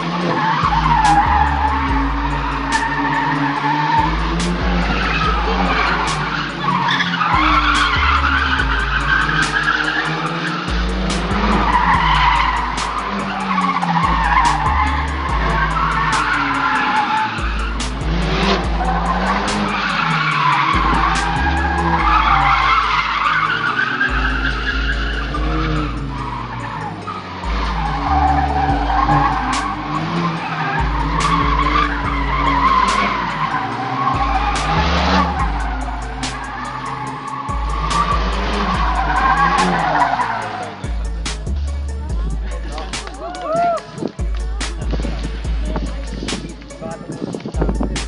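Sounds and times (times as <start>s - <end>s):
car engines revving: 0.0s - 48.0s
music with heavy bass: 0.0s - 48.0s
tyres squealing: 0.0s - 48.0s.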